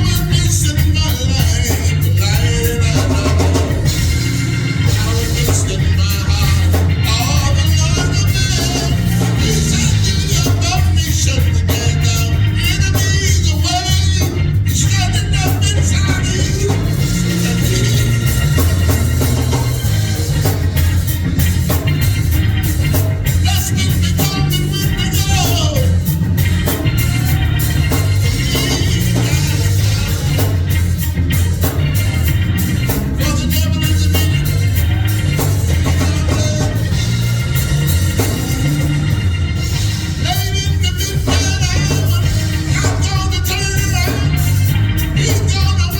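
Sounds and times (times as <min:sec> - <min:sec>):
gospel band playing: 0:00.0 - 0:45.9
singers singing: 0:00.0 - 0:45.9.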